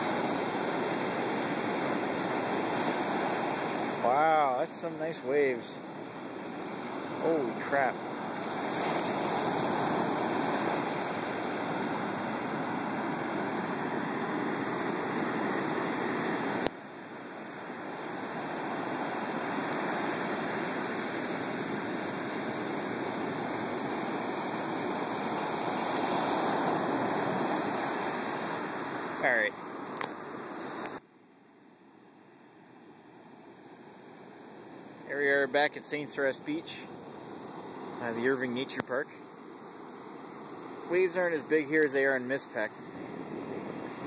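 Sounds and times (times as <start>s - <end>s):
surf washing up beach: 0.0s - 31.0s, 31.6s - 44.0s.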